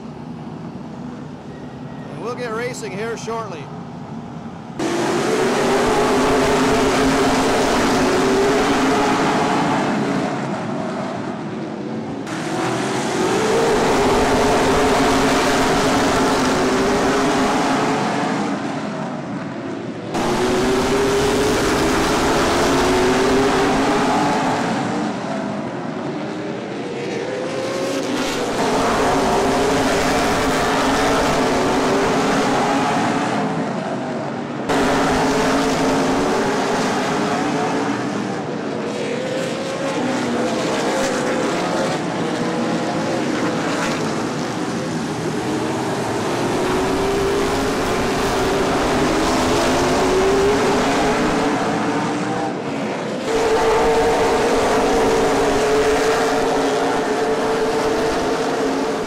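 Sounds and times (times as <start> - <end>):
race cars speeding past: 4.7 - 59.0.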